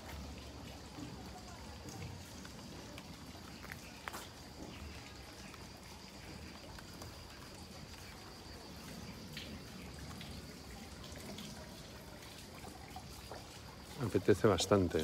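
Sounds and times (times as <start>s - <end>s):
fountain trickling: 0.0s - 15.0s
water drips: 0.0s - 15.0s.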